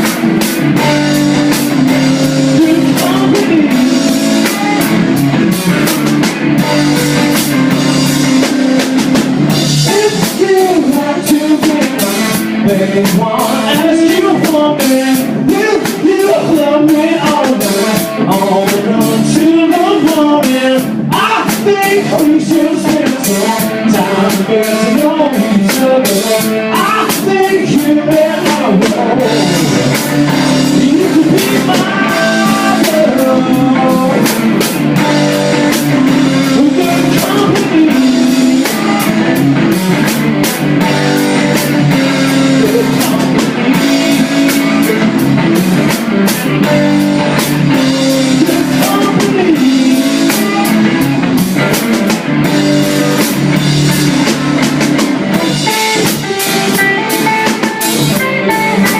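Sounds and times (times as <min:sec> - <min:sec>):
drum kit beat: 0:00.0 - 0:58.9
electric guitar: 0:00.0 - 0:58.9
person singing: 0:00.8 - 0:05.8, 0:06.6 - 0:40.1, 0:40.8 - 0:54.6.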